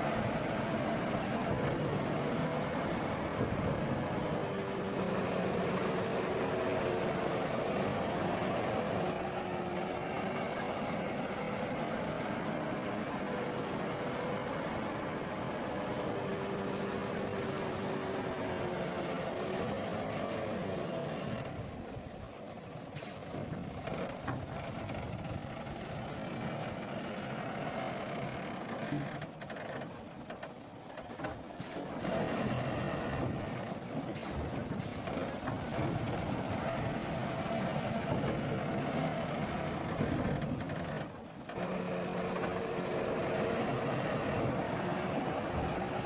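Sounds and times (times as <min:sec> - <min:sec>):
heavy machinery diesel engine: 0:00.0 - 0:46.0.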